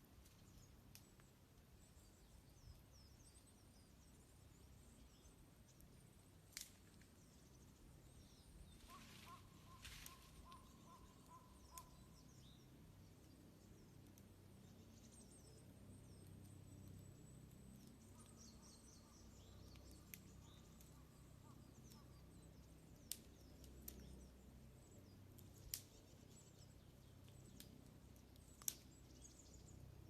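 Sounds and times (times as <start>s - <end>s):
campfire crackling: 0.0s - 30.0s
small birds chirping: 0.0s - 30.0s.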